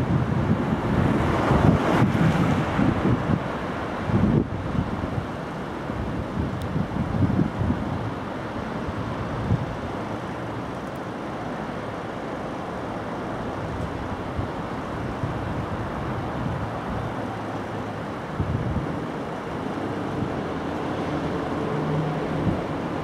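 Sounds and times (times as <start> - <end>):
low rumble of trains: 0.0 - 23.0.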